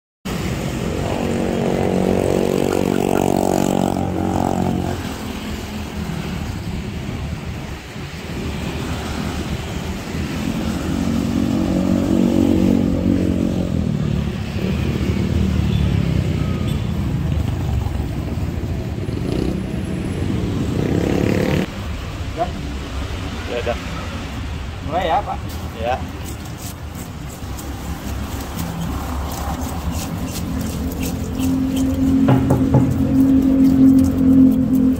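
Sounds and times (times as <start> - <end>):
motor scooters passing: 0.3 - 7.4, 8.1 - 21.8, 25.8 - 34.9
cars passing: 0.3 - 34.9.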